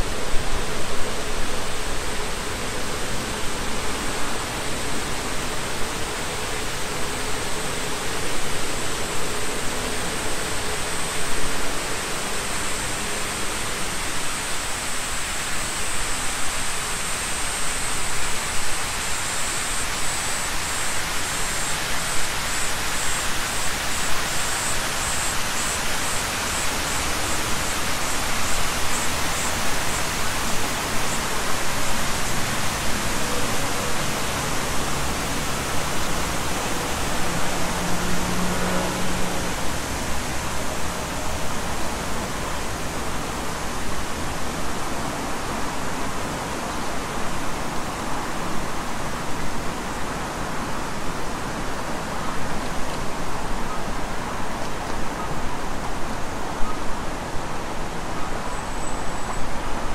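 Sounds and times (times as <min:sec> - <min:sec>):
fountain water rushing: 0:00.0 - 0:59.9.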